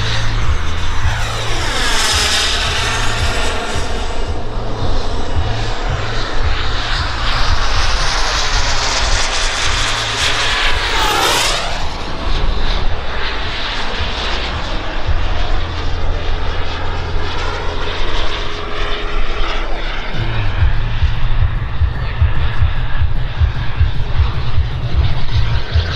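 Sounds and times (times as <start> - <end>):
model jet turbine whine: 0.0 - 25.8
low uneven rumble: 0.0 - 25.9.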